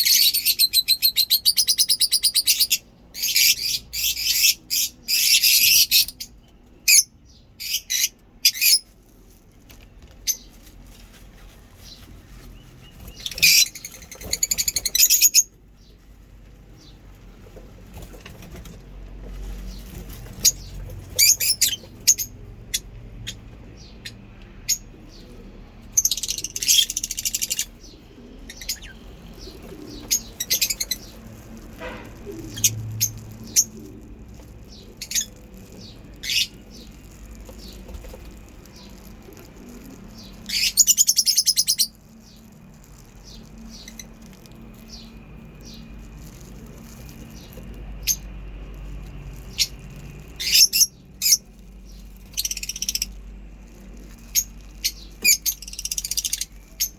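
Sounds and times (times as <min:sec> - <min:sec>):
lovebirds chattering: 0:00.0 - 0:08.9, 0:09.9 - 0:18.7, 0:19.4 - 0:56.9.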